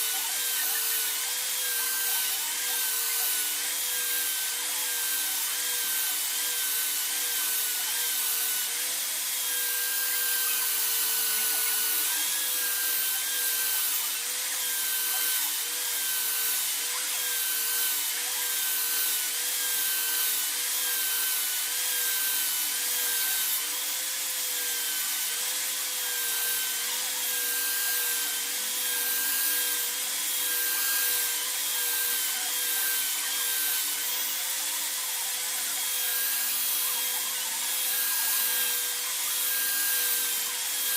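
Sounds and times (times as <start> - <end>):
power tool motor whine: 0.0 - 40.9.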